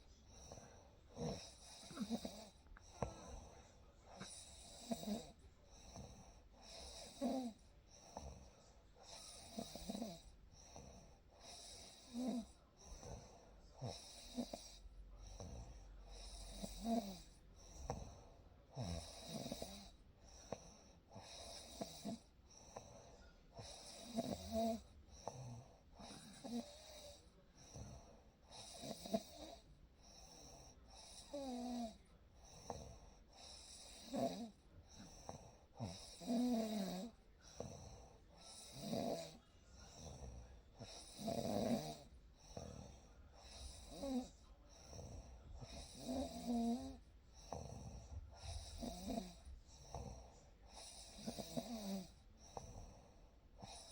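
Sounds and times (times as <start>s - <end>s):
person snoring: 0.2s - 18.2s, 18.8s - 20.0s, 23.6s - 53.0s.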